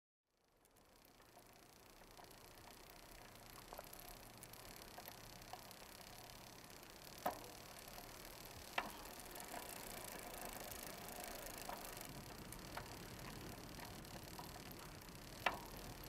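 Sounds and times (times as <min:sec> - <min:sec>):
sharp ticks: 0:00.6 - 0:16.0.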